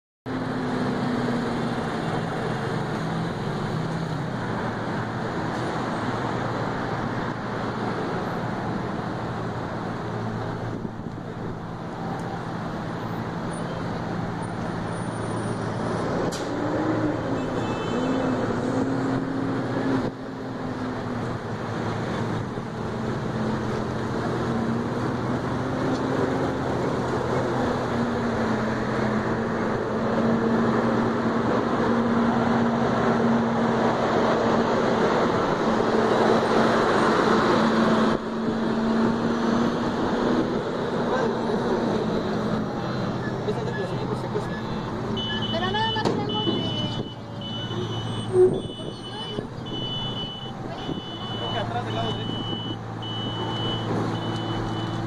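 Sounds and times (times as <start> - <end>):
road traffic engines droning: 0.3 - 55.0.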